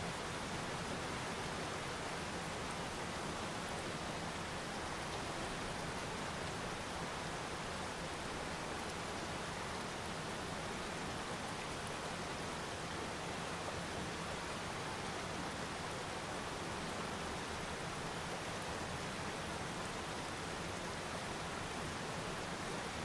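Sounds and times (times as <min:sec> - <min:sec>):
waterfall pouring over rocks: 0:00.0 - 0:23.0.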